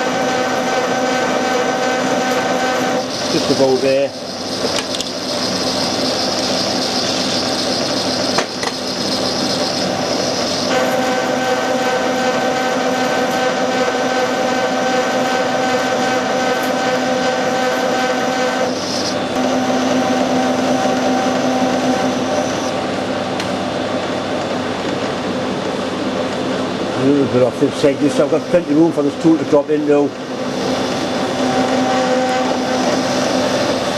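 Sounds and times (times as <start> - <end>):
metal lathe whining: 0.0 - 23.0, 27.7 - 33.9.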